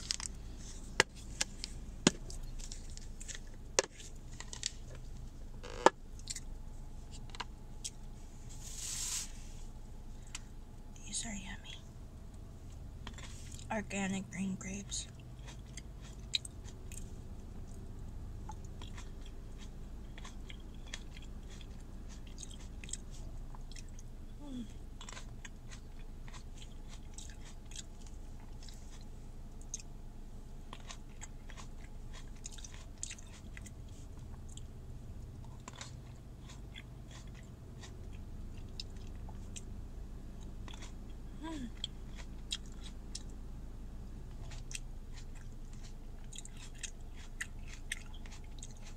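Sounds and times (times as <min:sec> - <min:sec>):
wet crunches of chewing grapes: 0:00.0 - 0:08.2, 0:12.6 - 0:13.7, 0:15.1 - 0:43.4, 0:44.2 - 0:48.9
steady low hum: 0:00.0 - 0:48.9.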